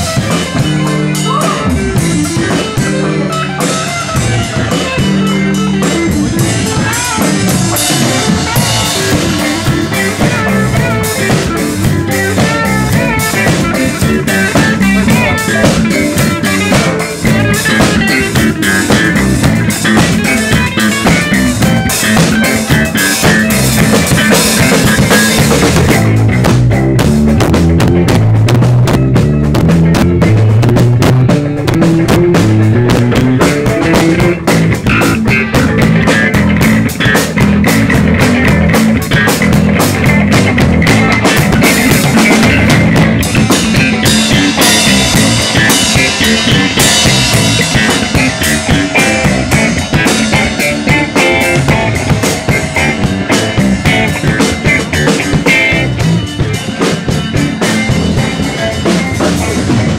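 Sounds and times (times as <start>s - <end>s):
drum kit played hard: 0.0s - 59.9s
electric guitar: 0.0s - 59.9s
low bass line: 0.0s - 59.9s.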